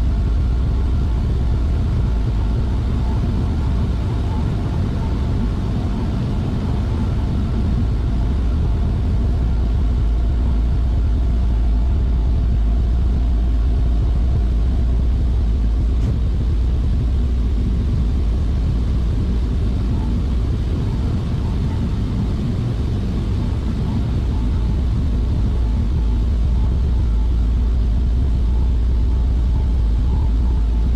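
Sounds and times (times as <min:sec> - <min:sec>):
faint steady whine: 0:00.0 - 0:30.9
industrial machinery drone: 0:00.0 - 0:30.9.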